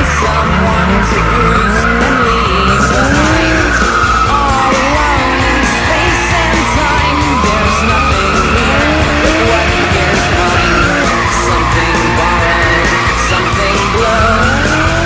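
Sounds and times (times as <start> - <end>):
car engine revving: 0.0 - 15.0
music with a steady beat: 0.0 - 15.0
tires squealing: 0.0 - 15.0.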